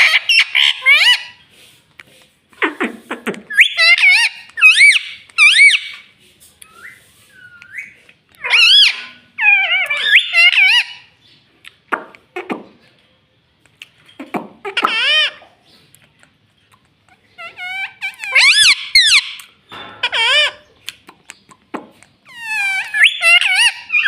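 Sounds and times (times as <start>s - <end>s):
parrot warbling calls and chatter: 0.0s - 1.5s, 2.5s - 13.0s, 13.7s - 24.0s.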